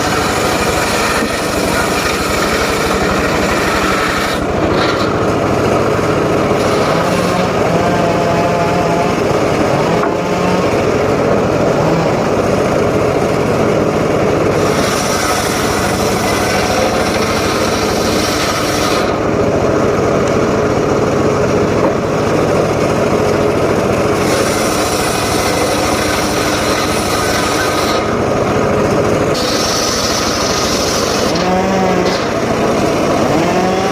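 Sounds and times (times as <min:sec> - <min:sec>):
power saw cutting wood: 0:00.0 - 0:33.9.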